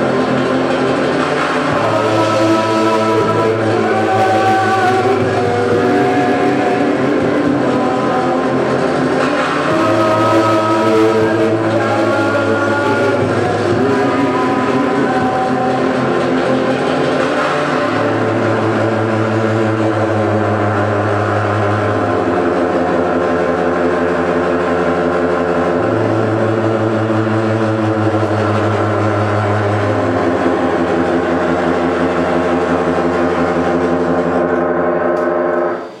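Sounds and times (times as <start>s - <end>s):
amplified electric guitar drone: 0.0s - 36.0s
low bass note: 0.0s - 36.0s.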